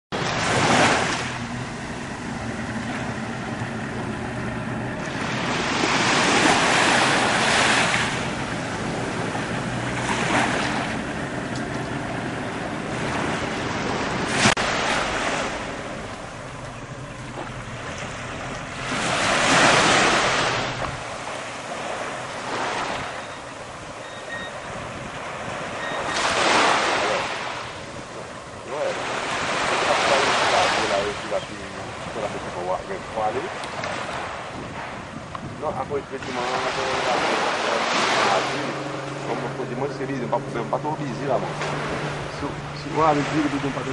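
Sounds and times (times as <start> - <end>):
wind buffeting microphone: 0.1 - 26.8, 27.4 - 43.9
sea waves breaking: 0.1 - 43.9.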